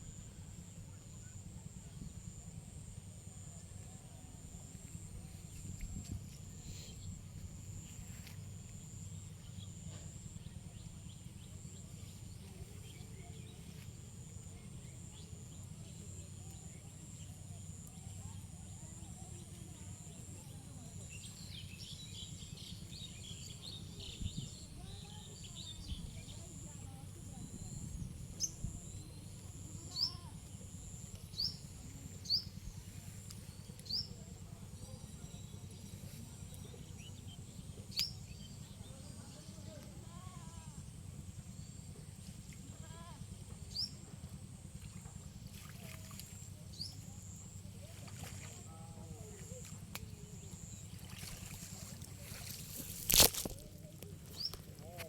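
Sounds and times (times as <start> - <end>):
continuous high-pitched whine: 0.0 - 55.0.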